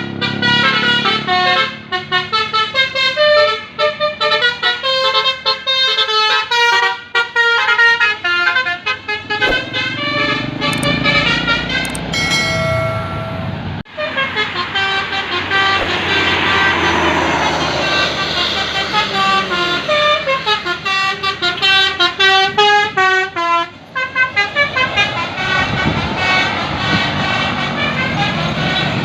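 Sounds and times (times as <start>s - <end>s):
multi-tone musical bus horns: 0.0s - 29.0s.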